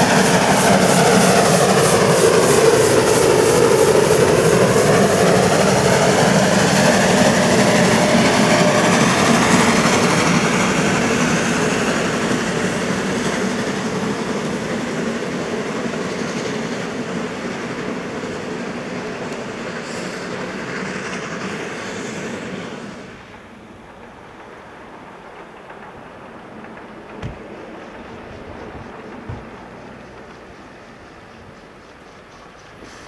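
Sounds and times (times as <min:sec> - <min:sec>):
steam locomotive passing: 0:00.0 - 0:33.0
train coaches rolling by: 0:00.0 - 0:33.0.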